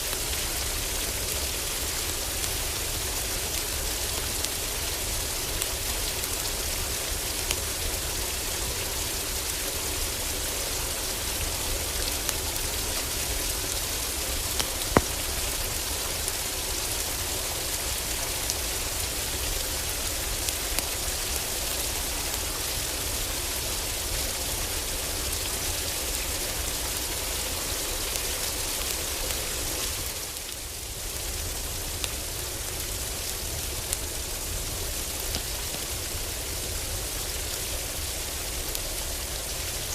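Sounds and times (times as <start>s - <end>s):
heavy rain drumming on roof: 0.0s - 39.9s
wood fire crackling: 0.1s - 22.7s, 26.9s - 39.5s.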